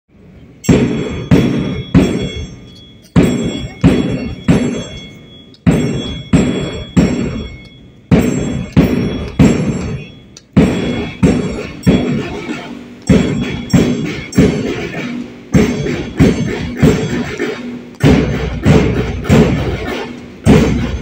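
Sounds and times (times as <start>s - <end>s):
marching drum beats: 0.6s - 21.0s.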